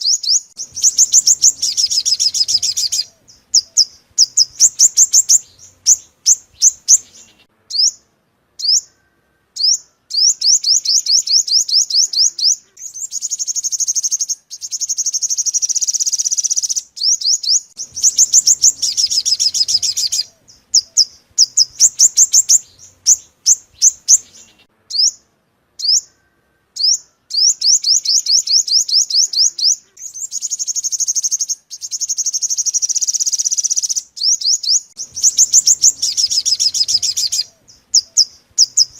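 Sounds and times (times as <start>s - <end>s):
sunbird chirps and trills: 0.0s - 38.9s.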